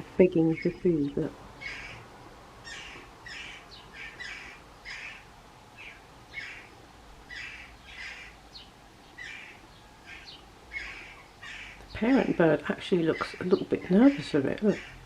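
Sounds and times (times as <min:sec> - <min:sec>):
young jackdaw begging calls: 0:00.3 - 0:15.0.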